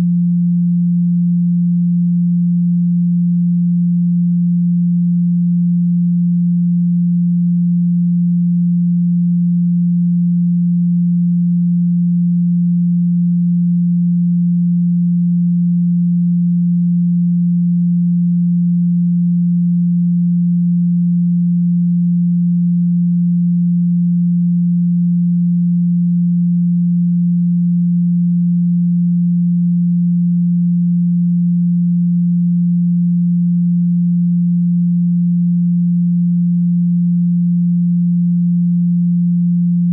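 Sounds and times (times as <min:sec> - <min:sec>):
low sine tone: 0:00.0 - 0:39.9.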